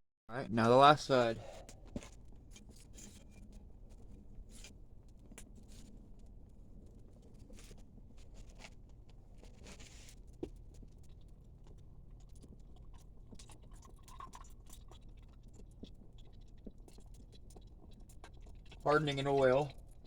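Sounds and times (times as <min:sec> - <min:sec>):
small crackles and ticks: 0:01.1 - 0:20.0.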